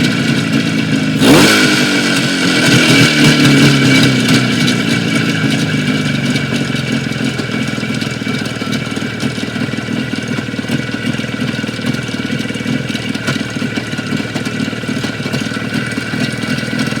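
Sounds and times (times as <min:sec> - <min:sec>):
engine knock: 0:00.0 - 0:17.0
motorcycle engine idling: 0:00.0 - 0:17.0.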